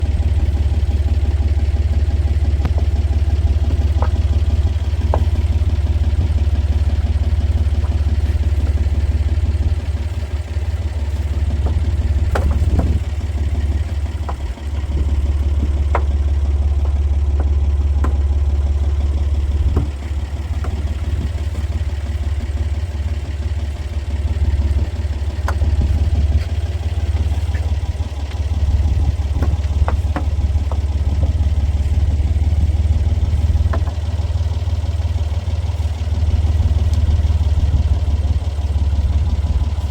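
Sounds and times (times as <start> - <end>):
boat engine droning: 0.0 - 39.9
knocks and clatter: 0.1 - 39.9.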